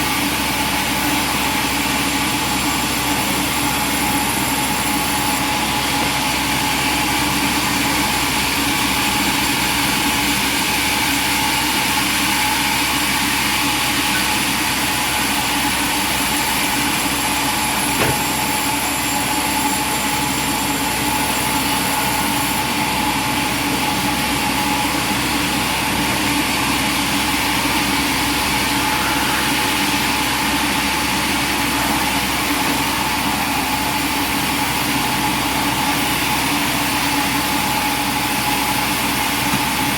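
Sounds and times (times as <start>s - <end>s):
machine drone with whine: 0.0s - 39.9s.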